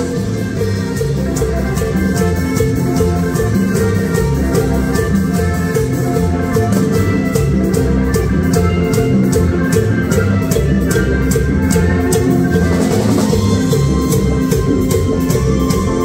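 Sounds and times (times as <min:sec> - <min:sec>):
live latin band playing: 0:00.0 - 0:16.0.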